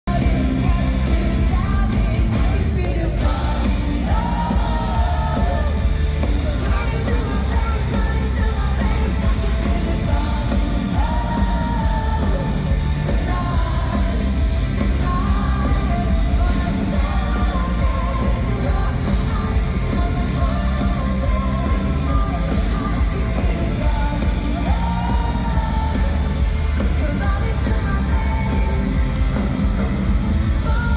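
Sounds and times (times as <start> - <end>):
metal band playing live: 0.1 - 30.9
woman singing lead vocal: 0.1 - 30.9.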